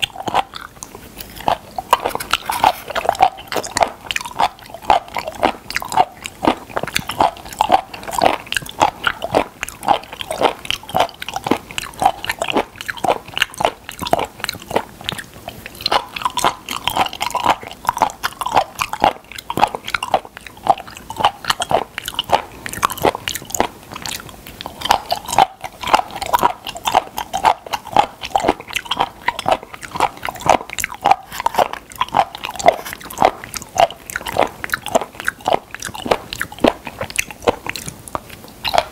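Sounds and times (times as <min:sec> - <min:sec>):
chewing wet food: 0:00.0 - 0:38.9.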